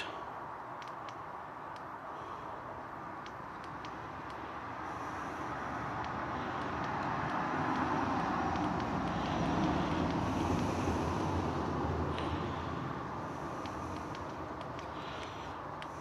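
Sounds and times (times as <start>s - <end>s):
road vehicle passing: 0.0s - 16.0s.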